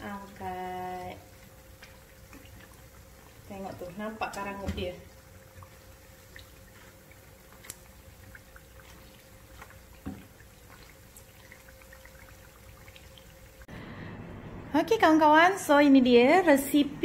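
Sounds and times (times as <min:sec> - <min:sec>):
fritters sizzling in hot oil: 0:00.0 - 0:13.7.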